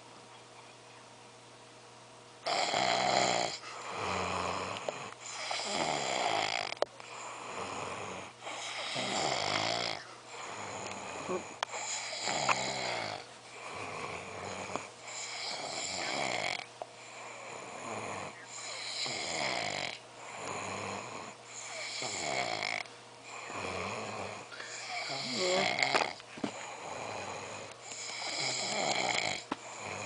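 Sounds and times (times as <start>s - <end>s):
person snoring heavily: 2.4s - 30.0s.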